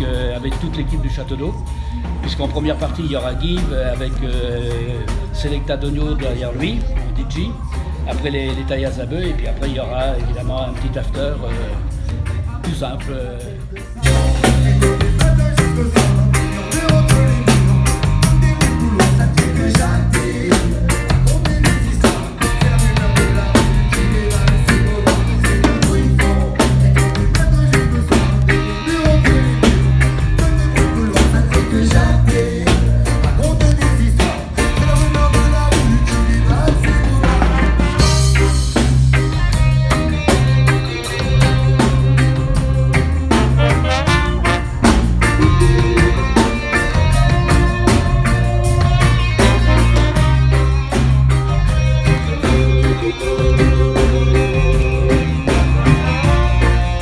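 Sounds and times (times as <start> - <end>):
drum rimshots: 0.0 - 57.0
heavy bass line: 0.0 - 57.0
reggae band playing: 0.0 - 57.0.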